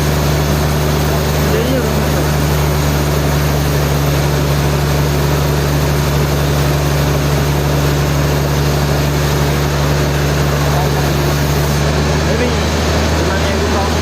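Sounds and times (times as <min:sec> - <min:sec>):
sawmill machinery droning: 0:00.0 - 0:14.0.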